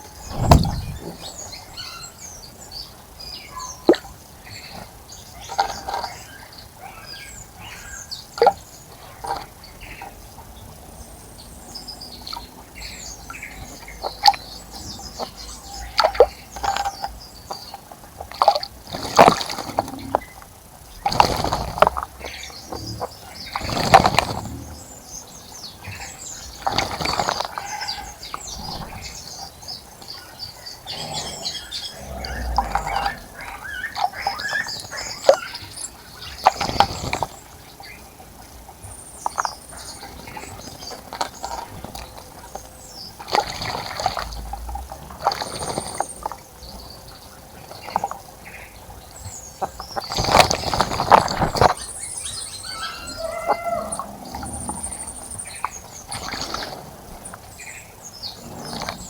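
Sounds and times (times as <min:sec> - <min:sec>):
birds splashing in water: 0:00.0 - 0:59.0.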